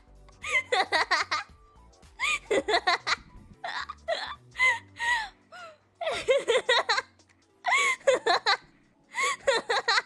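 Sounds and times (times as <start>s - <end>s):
woman laughing breathlessly: 0.4s - 1.4s, 2.2s - 7.0s, 7.6s - 10.0s.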